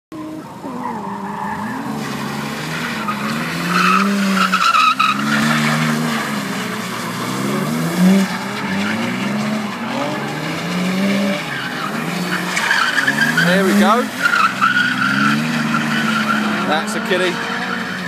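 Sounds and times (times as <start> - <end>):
car engine revving: 0.1 - 18.0
tyres squealing on tarmac: 0.3 - 18.0.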